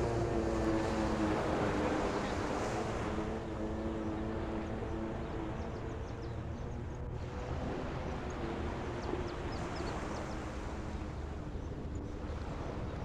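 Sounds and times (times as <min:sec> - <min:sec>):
motorboat engine hum: 0:00.0 - 0:13.0
wind and water rumble: 0:00.0 - 0:13.0.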